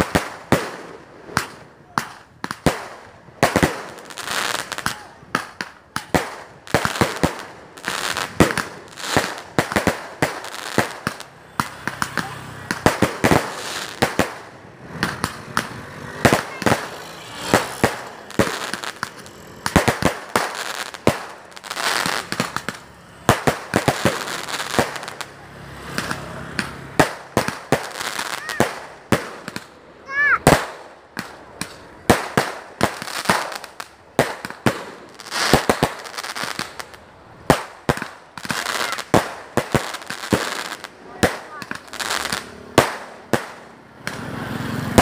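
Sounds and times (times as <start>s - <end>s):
fireworks bangs: 0.0s - 45.0s.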